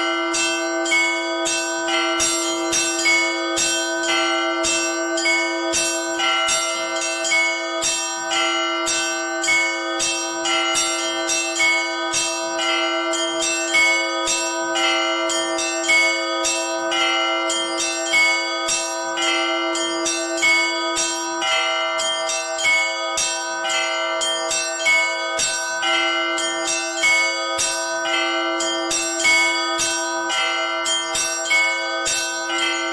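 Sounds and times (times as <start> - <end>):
low bell ringing: 0.0 - 32.9
small church bells ringing: 0.0 - 32.9.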